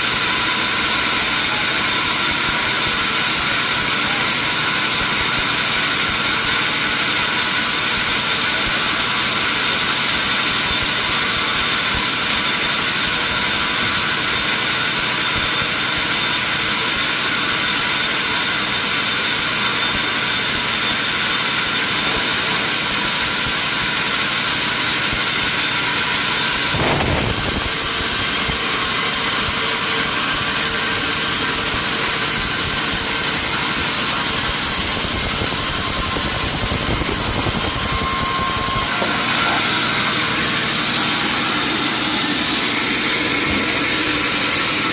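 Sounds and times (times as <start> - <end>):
sawmill machinery whining: 0.0 - 44.9.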